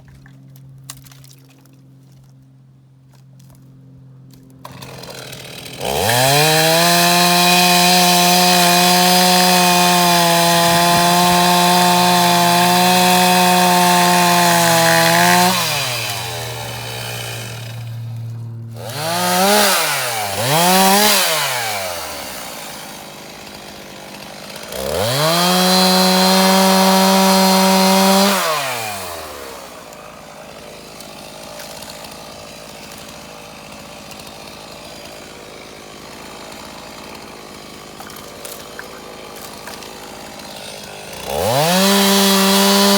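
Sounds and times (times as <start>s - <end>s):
chainsaw revving and idling: 4.3s - 42.9s.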